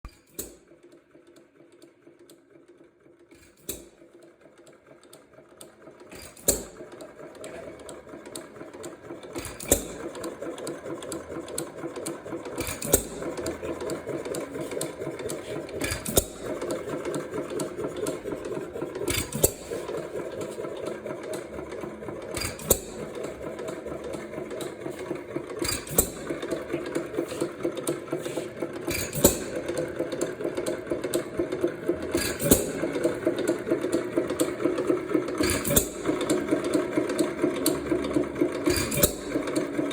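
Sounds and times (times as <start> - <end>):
rattling clatter of flywheels: 3.3 - 39.9.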